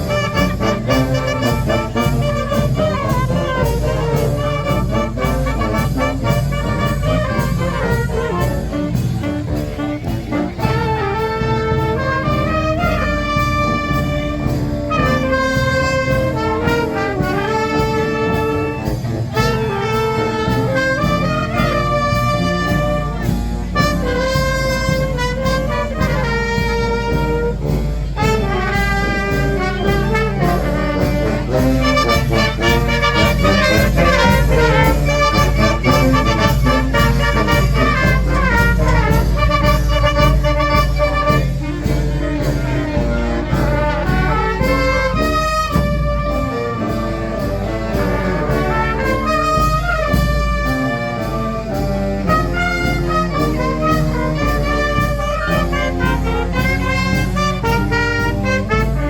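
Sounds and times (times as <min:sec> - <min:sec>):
brass band playing: 0:00.0 - 0:59.0
steady drum beat: 0:00.0 - 0:59.0.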